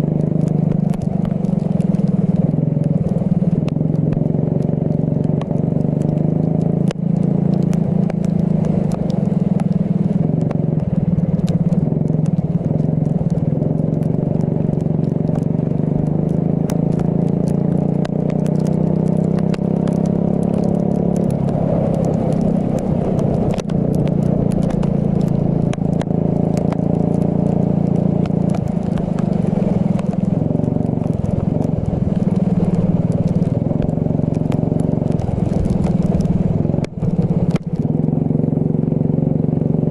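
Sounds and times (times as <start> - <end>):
sharp ticks and crackles: 0.0 - 39.9.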